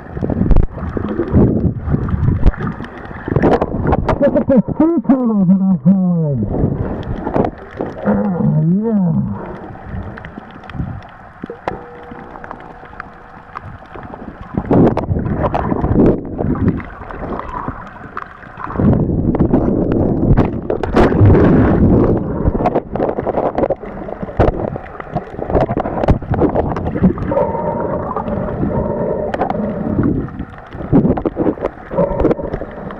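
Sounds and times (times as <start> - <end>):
muffled water sloshing and bubbling: 0.0 - 32.9.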